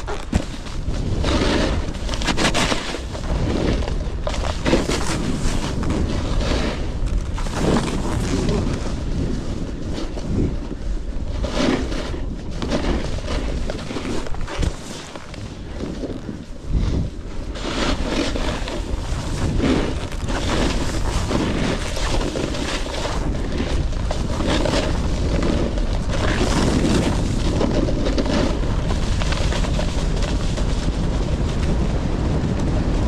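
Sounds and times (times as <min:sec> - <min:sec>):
snowboard scraping on snow: 0:00.0 - 0:33.0
wind buffeting microphone: 0:00.0 - 0:33.0.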